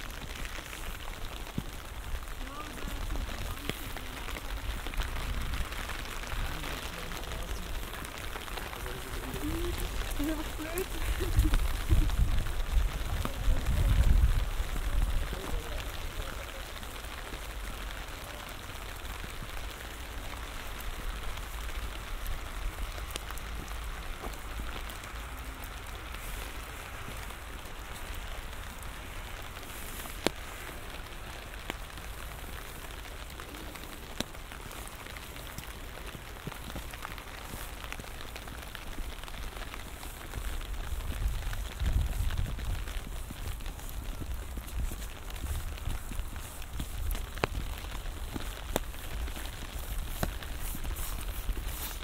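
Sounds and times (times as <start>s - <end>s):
light rain pattering: 0.0s - 52.0s
sharp raindrop ticks: 0.0s - 52.0s.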